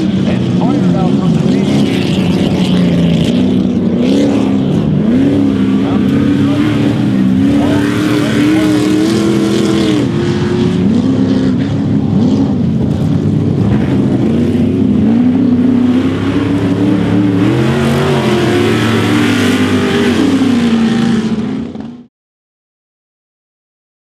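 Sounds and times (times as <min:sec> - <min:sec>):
race truck engines revving: 0:00.0 - 0:22.1.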